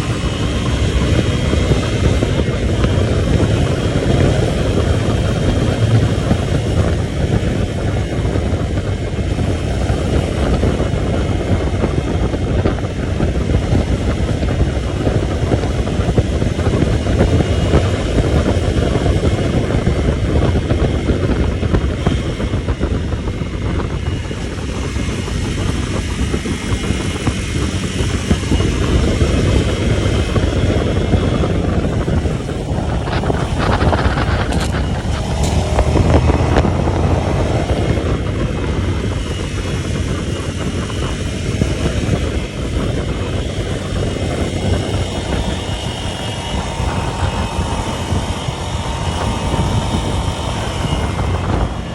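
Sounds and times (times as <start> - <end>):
vehicle engine rumbling: 0.0 - 51.9
wind noise on microphone: 0.0 - 51.9.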